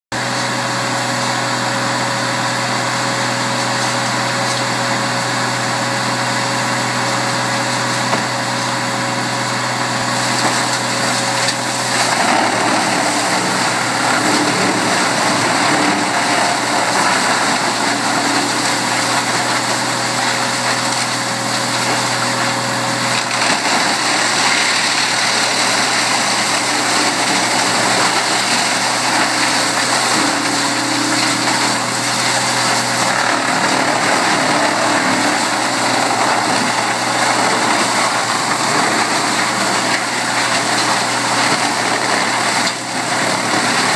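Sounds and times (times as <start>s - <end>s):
diesel engine drone: 0.2s - 43.9s
grinder rushing noise: 0.2s - 43.9s.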